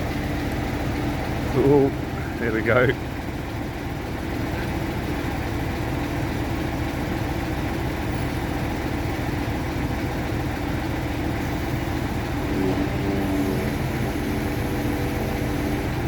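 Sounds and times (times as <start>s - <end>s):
boat lift engine running: 0.0s - 16.0s.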